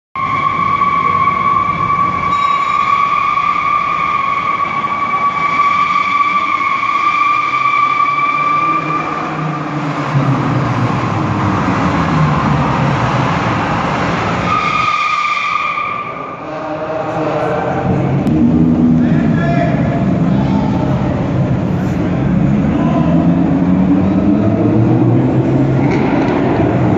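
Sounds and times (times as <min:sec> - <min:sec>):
rough tire noise: 0:00.2 - 0:26.9
tires squealing: 0:00.2 - 0:26.9.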